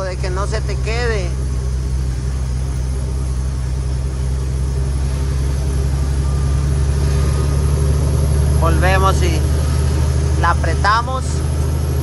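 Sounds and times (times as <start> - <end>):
diesel truck engine drone: 0.0 - 12.0.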